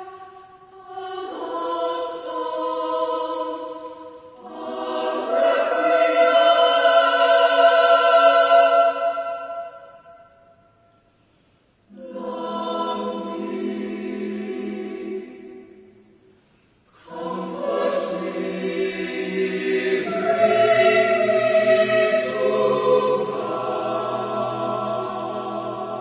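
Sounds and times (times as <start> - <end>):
choir singing: 0.0 - 10.6, 11.9 - 16.1, 16.9 - 26.0.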